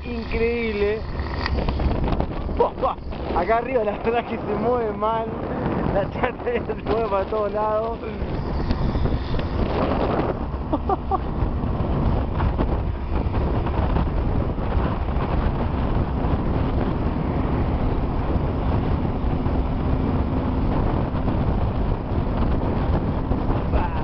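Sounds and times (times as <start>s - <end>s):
vehicle rumble: 0.0s - 24.0s
wind on microphone: 0.0s - 24.0s.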